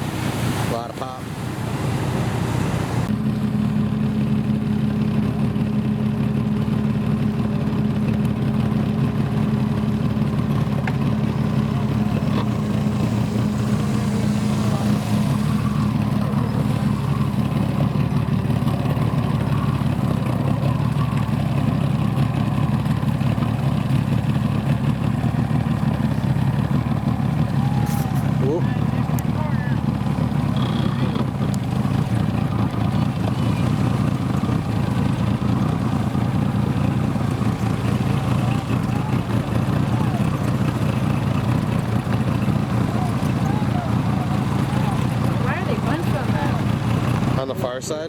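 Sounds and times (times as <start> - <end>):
motorboat engine droning: 0.0 - 48.0.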